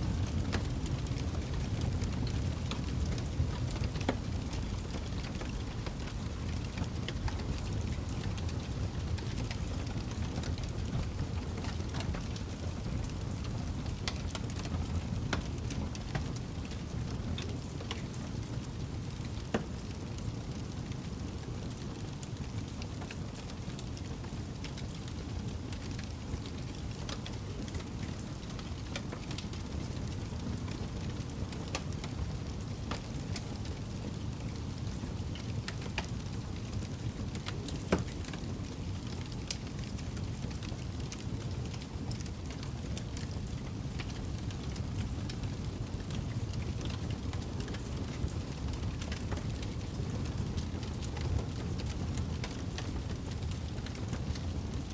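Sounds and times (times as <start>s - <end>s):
low rumble of flames: 0.0s - 54.9s
campfire crackling and popping: 0.1s - 54.9s.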